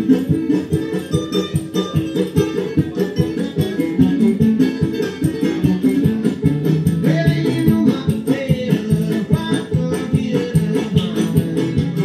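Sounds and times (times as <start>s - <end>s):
guitar plucking quick notes: 0.0s - 12.0s.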